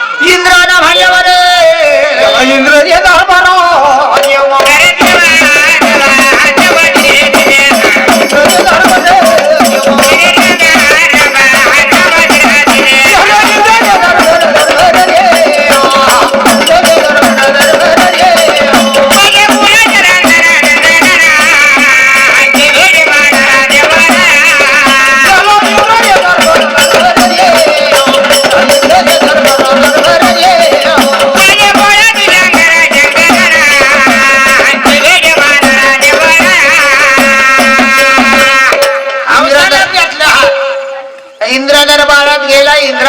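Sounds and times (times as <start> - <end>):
person singing: 0.0 - 43.0
hand drum beat: 4.2 - 39.2.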